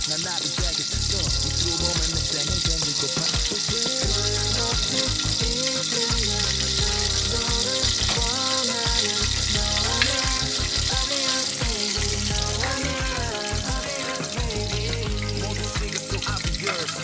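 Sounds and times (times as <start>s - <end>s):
background music: 0.0s - 17.0s
butter sizzling in saucepan: 0.0s - 17.0s.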